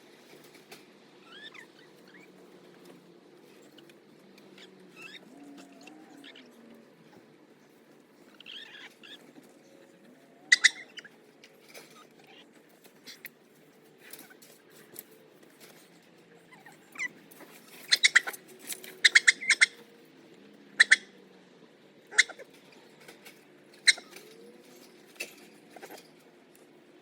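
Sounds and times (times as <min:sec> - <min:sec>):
chickens calling: 0:00.2 - 0:13.4, 0:15.6 - 0:26.5.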